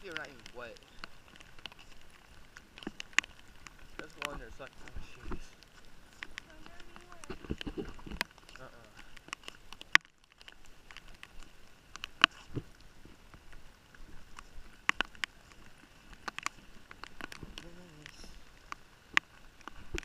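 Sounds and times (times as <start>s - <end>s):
raindrops tapping on phone: 0.0s - 20.0s.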